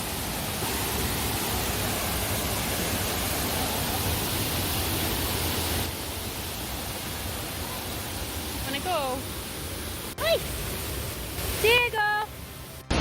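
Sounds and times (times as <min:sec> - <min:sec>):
waterfall roaring: 0:00.0 - 0:12.9.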